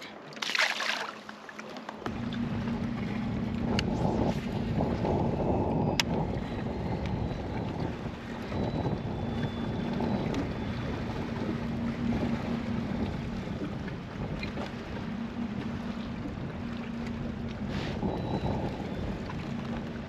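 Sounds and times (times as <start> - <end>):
choppy water: 0.0 - 20.0
steady low hum: 2.0 - 20.0
wind buffeting microphone: 2.0 - 20.0.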